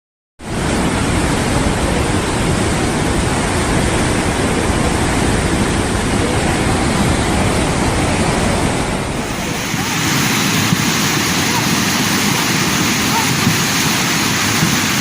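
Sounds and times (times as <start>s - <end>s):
water rushing: 0.4s - 15.0s.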